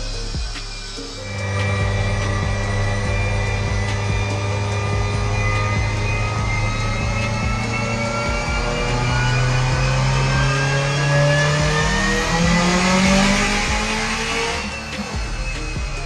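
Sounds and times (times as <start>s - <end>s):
turbocharged engine revving: 0.0s - 16.0s.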